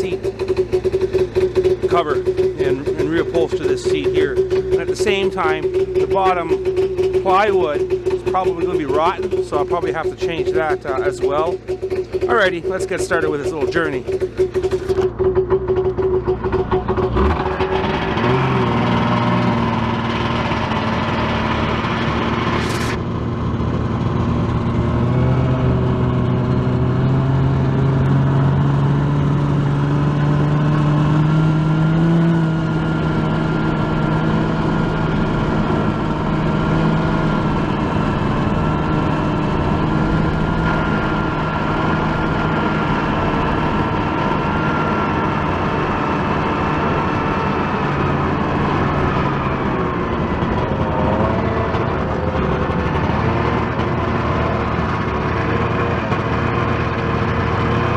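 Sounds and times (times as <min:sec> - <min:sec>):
snowmobile engine running: 0:00.0 - 0:57.9.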